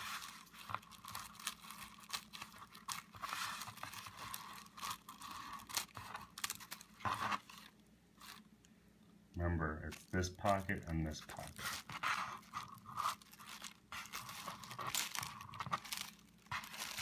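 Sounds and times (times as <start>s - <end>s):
plastic film crinkling: 0.0s - 8.5s, 9.8s - 17.0s.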